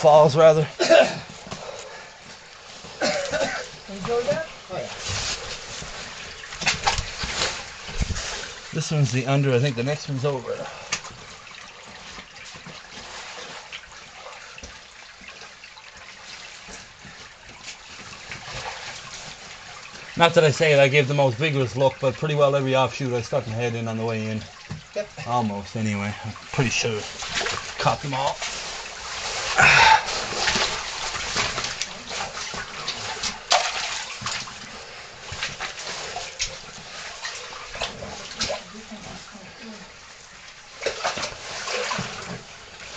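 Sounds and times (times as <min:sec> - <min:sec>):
water trickling in cave: 0:00.0 - 0:42.9.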